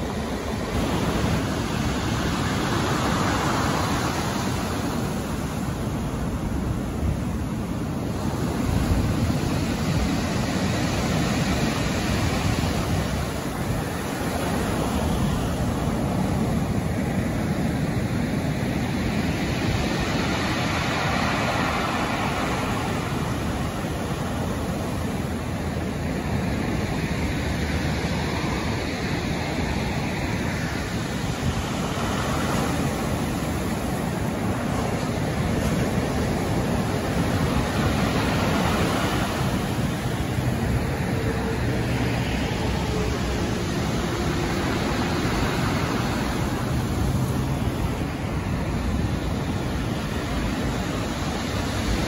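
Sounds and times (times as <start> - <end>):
surf washing up shingle beach: 0.0 - 52.0.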